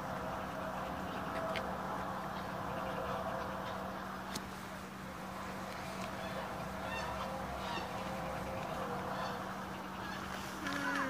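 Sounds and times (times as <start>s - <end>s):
steady low hum: 0.0s - 11.0s
waterfowl honking calls: 0.0s - 11.0s.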